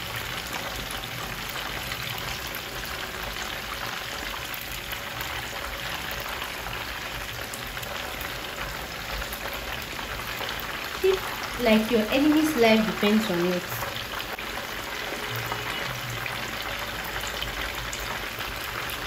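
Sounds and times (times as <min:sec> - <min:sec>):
fish frying in oil: 0:00.0 - 0:19.0.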